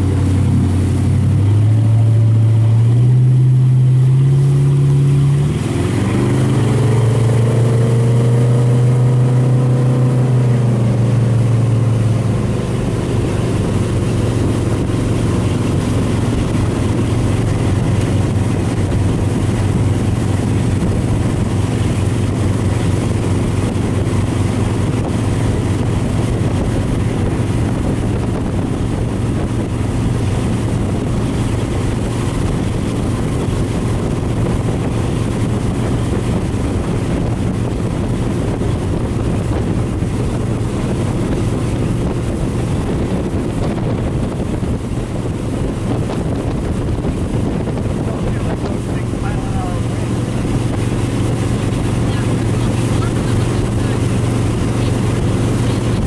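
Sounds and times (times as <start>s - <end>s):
motorboat engine speeding up: 0.0s - 56.0s
rush of wind and water: 0.0s - 56.0s.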